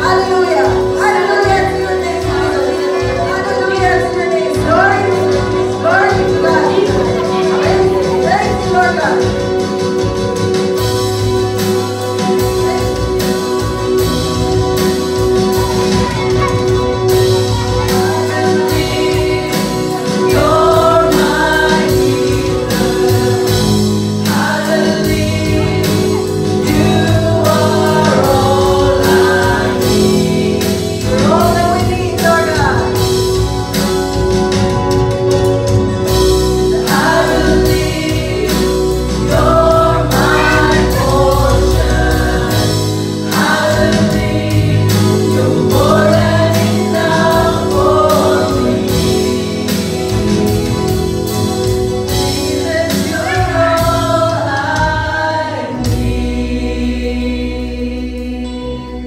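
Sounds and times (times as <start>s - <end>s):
steady drum beat: 0.0s - 58.2s
group of voices singing: 0.0s - 59.0s.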